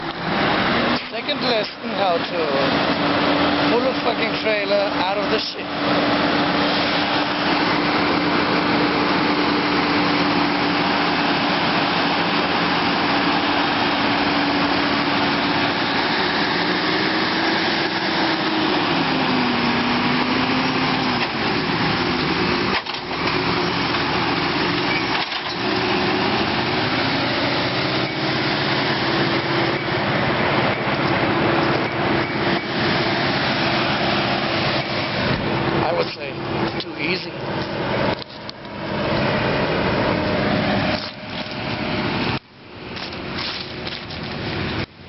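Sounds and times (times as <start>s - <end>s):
truck diesel engine under load: 0.0s - 45.0s.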